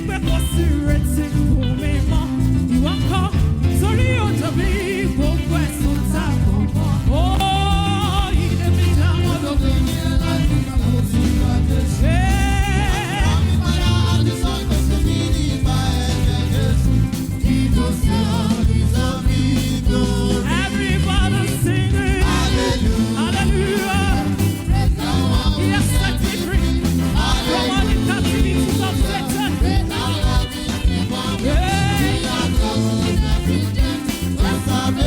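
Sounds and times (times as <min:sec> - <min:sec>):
upbeat gospel music with bass beat: 0:00.0 - 0:35.0.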